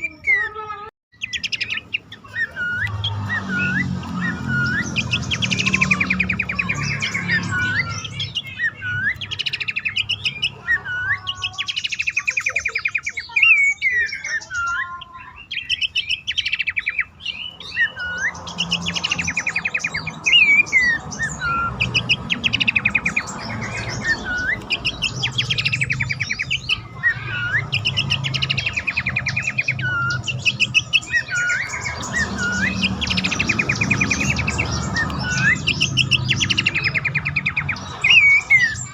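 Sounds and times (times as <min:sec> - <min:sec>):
bird chattering trills and whistles: 0:00.0 - 0:38.9.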